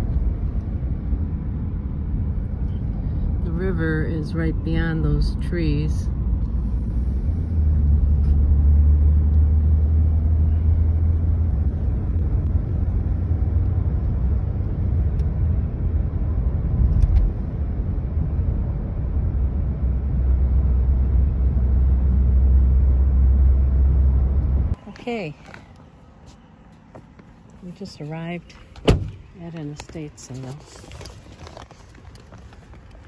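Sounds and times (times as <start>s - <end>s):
car cabin engine and tyre drone: 0.0s - 33.0s.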